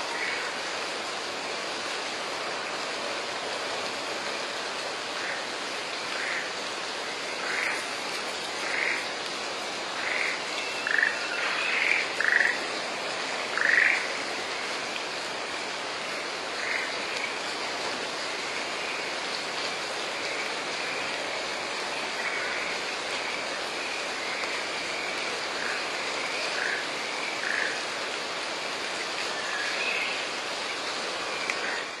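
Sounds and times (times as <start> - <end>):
frogs croaking: 0.0 - 32.0
rain falling on a pond: 0.0 - 32.0.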